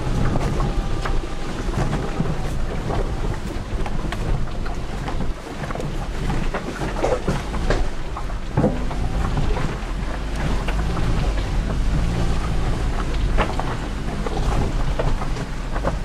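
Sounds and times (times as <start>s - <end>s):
engine and tyres rumbling: 0.0s - 16.0s
knocks and rattles: 0.0s - 16.0s.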